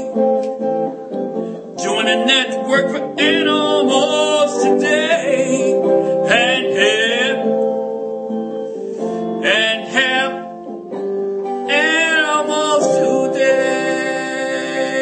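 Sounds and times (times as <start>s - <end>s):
guitar: 0.0s - 15.0s
person singing: 1.3s - 15.0s.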